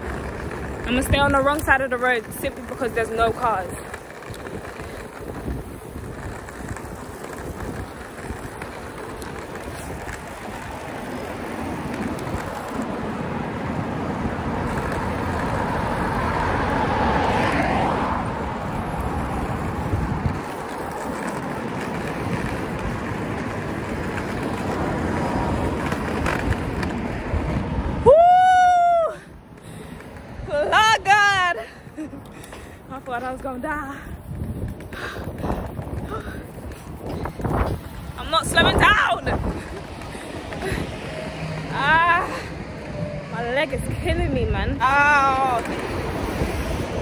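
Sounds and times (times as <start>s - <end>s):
roller skate wheels on asphalt: 0.0s - 47.0s.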